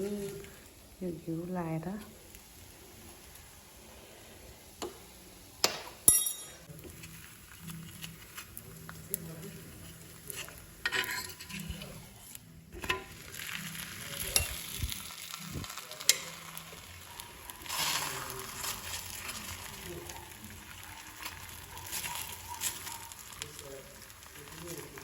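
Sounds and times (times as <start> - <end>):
flatbread sizzling in a pan: 0.0 - 25.0.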